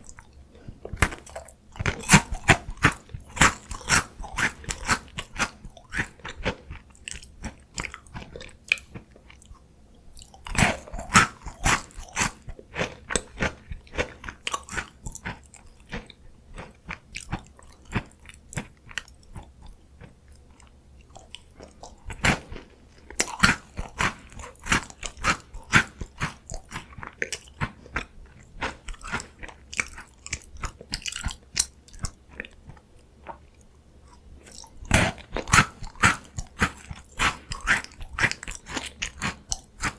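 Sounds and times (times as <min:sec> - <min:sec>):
crunchy biscuit chewing: 0:00.0 - 0:39.9.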